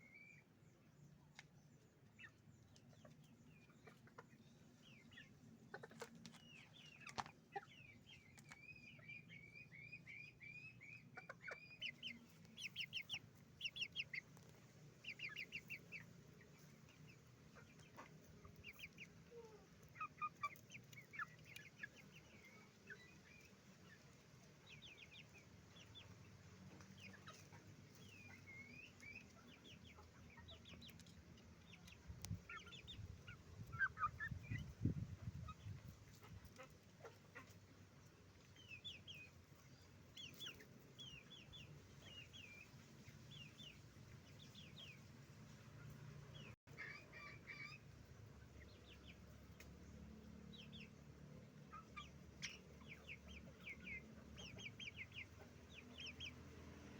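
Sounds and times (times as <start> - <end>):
chickens clucking and calling: 0.0 - 56.9.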